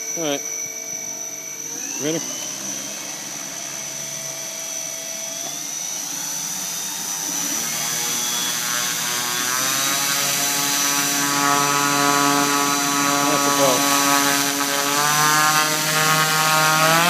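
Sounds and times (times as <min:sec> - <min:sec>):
electric motor driving a propeller: 0:00.0 - 0:17.0.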